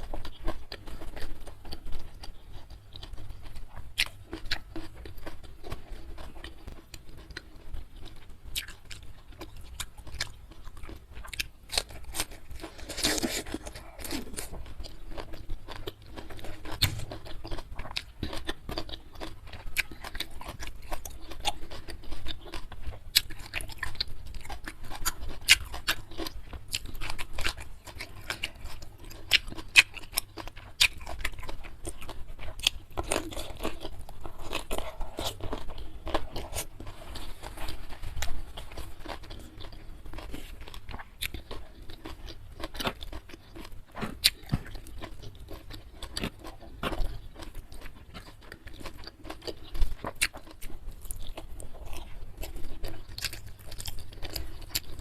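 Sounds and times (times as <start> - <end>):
chewing with crunchy bites: 0.0 - 55.0.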